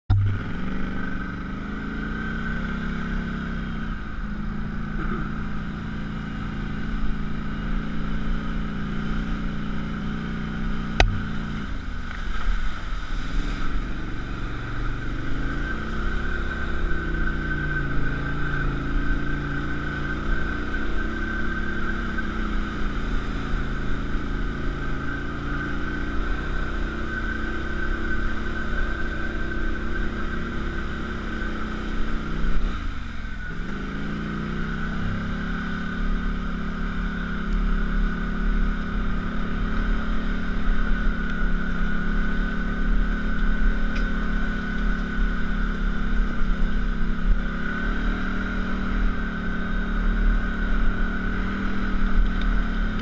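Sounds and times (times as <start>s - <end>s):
atv engine revving: 0.1s - 53.0s.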